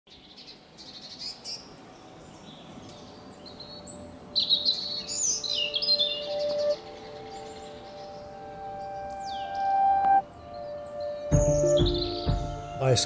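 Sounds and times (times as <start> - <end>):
birdsong chirps and trills: 0.1 - 13.0.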